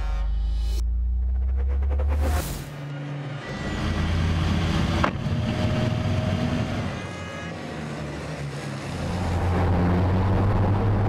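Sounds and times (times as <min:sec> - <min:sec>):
truck diesel engines running hard: 0:02.1 - 0:11.0.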